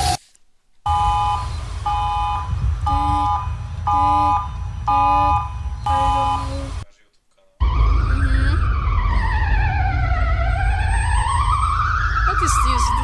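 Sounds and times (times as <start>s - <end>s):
emergency alert tone beeping: 0.9s - 6.8s, 7.6s - 13.0s.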